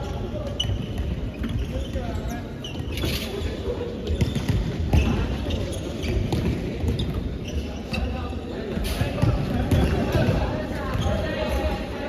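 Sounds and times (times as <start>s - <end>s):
shoes squeaking on gym floor: 0.0s - 9.0s, 9.7s - 11.7s.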